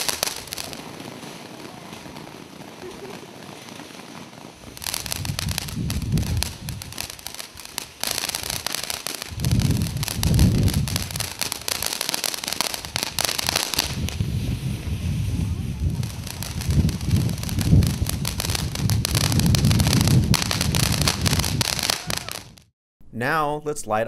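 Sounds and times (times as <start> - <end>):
firework fountain crackling: 0.0 - 22.7.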